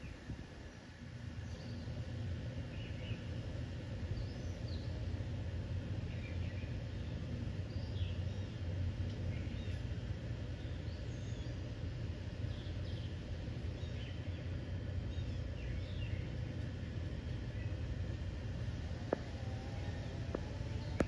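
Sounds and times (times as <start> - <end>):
low outdoor rumble: 0.0 - 21.0
small birds chirping: 0.0 - 21.0.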